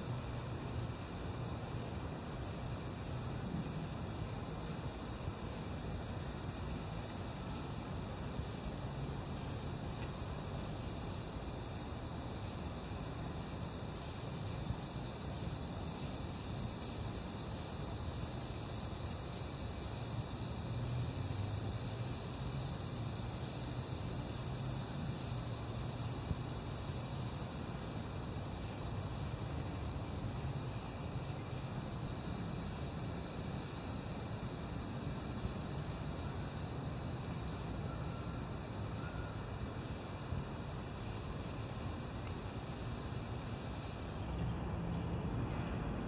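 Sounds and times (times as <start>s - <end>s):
high-pitched insect chorus: 0.0s - 46.0s.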